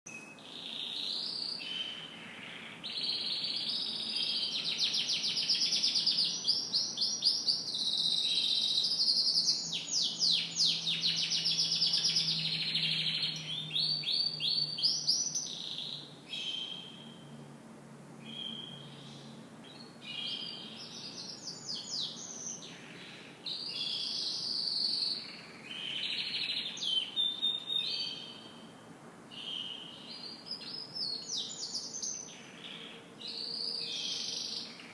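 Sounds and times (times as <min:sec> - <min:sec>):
canary singing trills: 0:00.1 - 0:17.4, 0:18.2 - 0:34.9.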